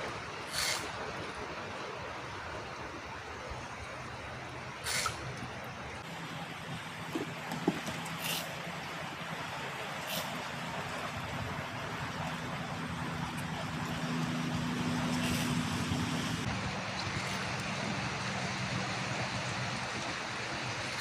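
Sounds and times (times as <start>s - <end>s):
water: 0.0s - 21.0s
small boat engine running: 3.8s - 21.0s.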